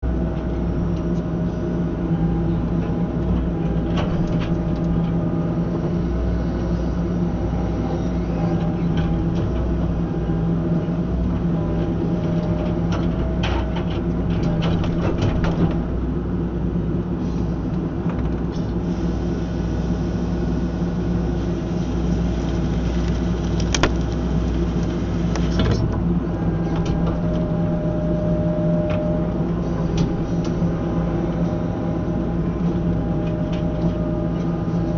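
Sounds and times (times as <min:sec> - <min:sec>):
excavator engine drone: 0:00.0 - 0:34.9.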